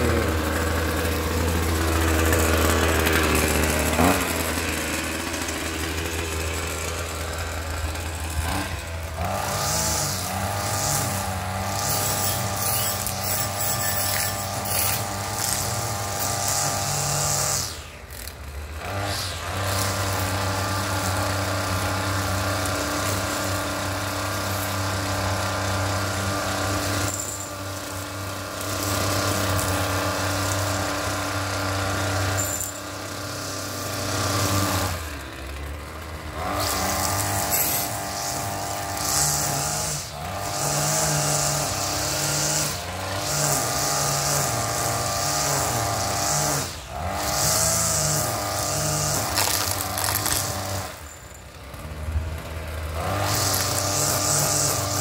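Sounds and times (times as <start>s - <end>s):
string trimmer cutting grass: 0.0s - 55.0s.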